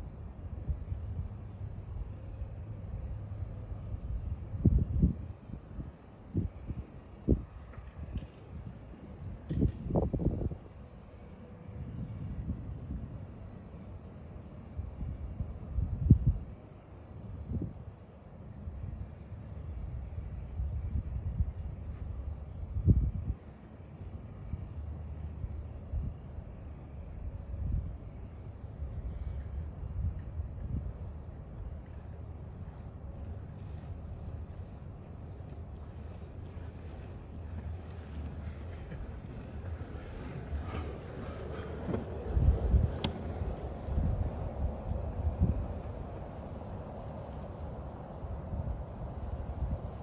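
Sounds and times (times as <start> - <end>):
low outdoor rumble: 0.0 - 50.0.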